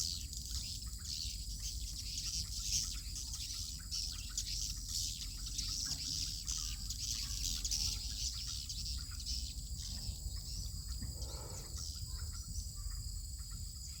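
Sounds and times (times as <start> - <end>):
birds twittering: 0.0 - 14.0.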